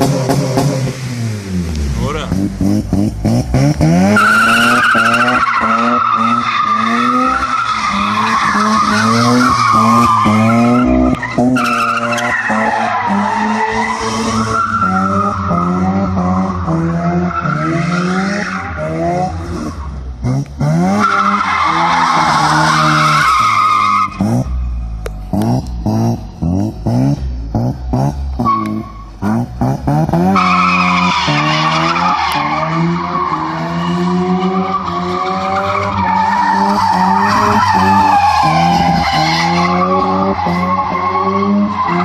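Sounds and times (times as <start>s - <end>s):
rotary engine revving hard: 0.0s - 42.0s.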